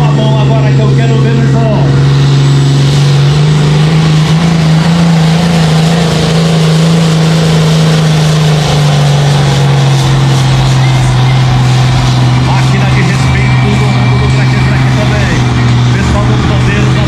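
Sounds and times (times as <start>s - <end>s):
diesel tractor engine at full throttle: 0.0s - 17.0s.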